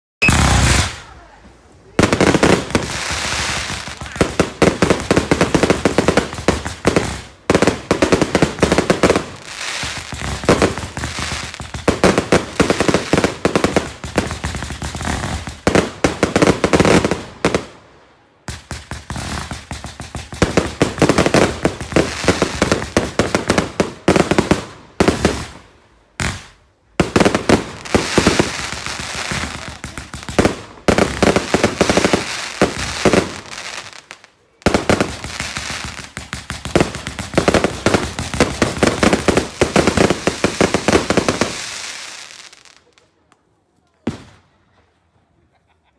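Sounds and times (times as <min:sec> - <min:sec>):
fireworks bangs and crackles: 0:00.2 - 0:43.1, 0:43.9 - 0:45.0.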